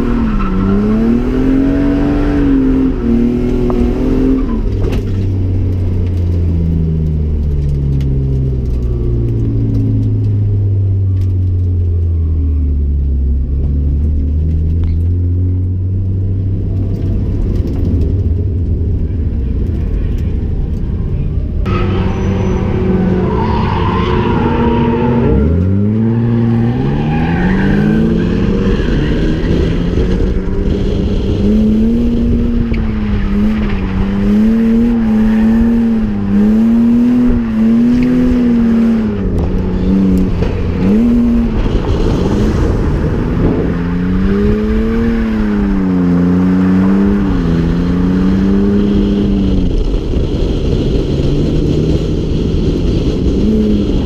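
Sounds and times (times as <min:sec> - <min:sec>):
car engine revving: 0:00.0 - 0:10.5, 0:12.2 - 0:54.0
road and wind noise: 0:00.0 - 0:54.0.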